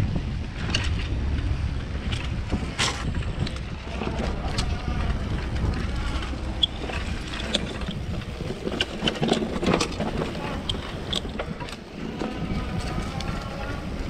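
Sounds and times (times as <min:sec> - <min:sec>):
bike clicks and rattles: 0:00.0 - 0:14.0
tyres rumbling over dirt: 0:00.0 - 0:14.0
wind buffeting microphone: 0:00.0 - 0:14.0.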